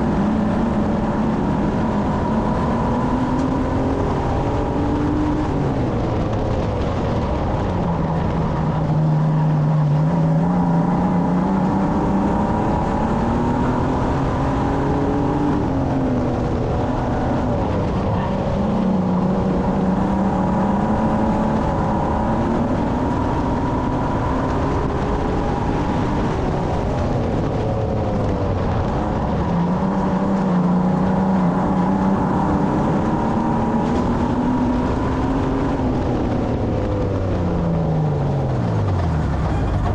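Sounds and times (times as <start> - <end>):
racing car engine: 0.0 - 39.9
road and wind noise: 0.0 - 39.9.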